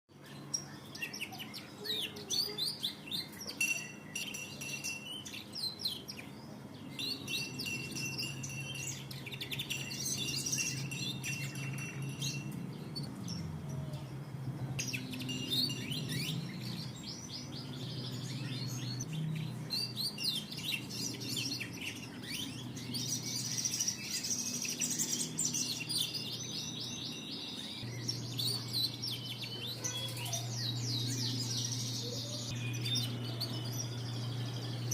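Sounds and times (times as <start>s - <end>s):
canary singing trills: 0.1s - 34.9s
steady low hum: 2.7s - 34.9s.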